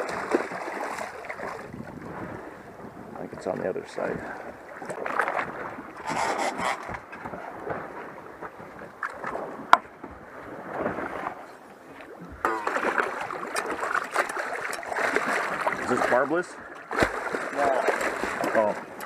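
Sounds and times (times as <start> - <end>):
water splashing against boat: 0.0 - 19.0.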